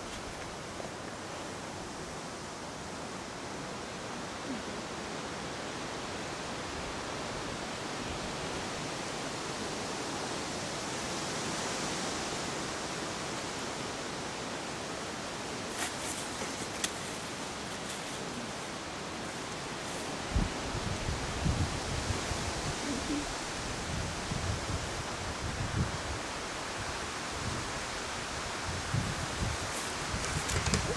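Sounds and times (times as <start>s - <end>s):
forest ambience hiss: 0.0s - 30.9s.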